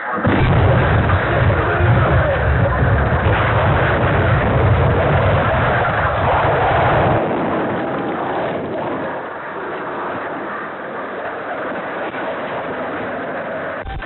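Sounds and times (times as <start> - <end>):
heavy low rumble: 0.0 - 14.0
loud rushing noise: 0.0 - 14.0.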